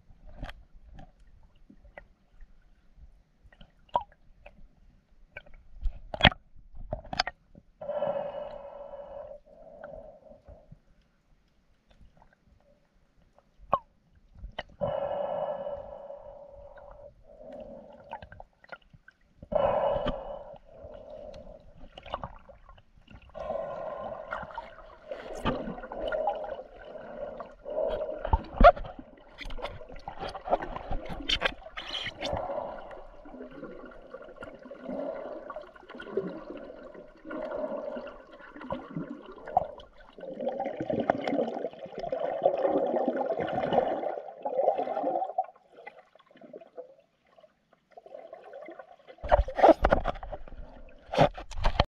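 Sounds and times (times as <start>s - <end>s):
muffled underwater water sloshing: 0.0s - 51.9s.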